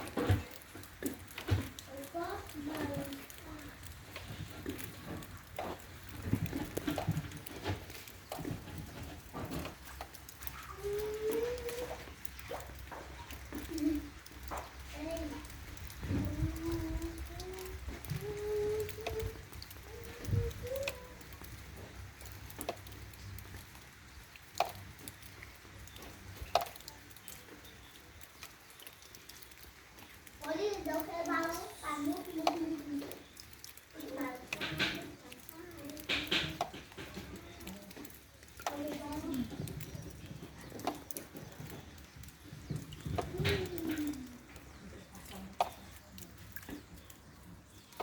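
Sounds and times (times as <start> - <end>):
light clicks and knocks: 0.0 - 47.2
water dripping: 0.0 - 48.0.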